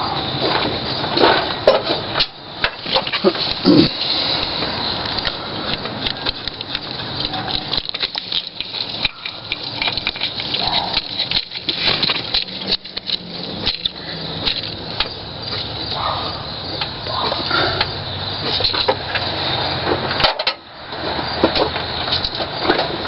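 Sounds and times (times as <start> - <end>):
coolant pattering: 0.4 - 23.0.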